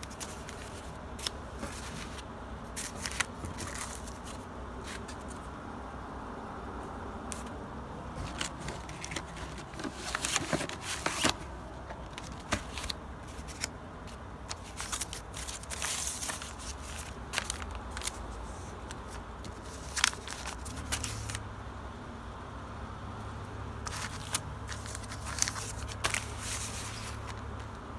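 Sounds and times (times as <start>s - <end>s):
newspaper rustling and crinkling: 0.0s - 5.5s, 8.1s - 21.4s, 23.8s - 27.8s.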